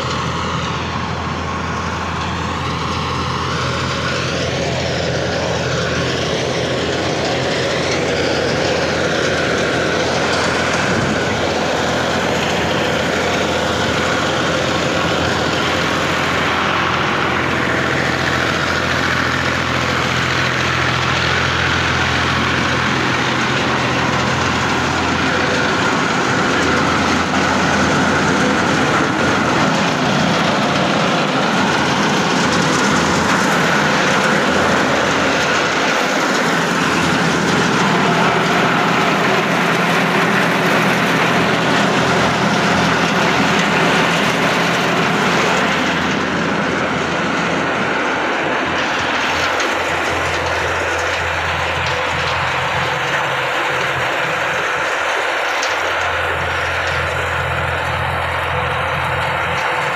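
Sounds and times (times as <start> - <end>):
tractor engine humming: 0.0 - 59.9
thresher mechanical din: 1.8 - 59.9.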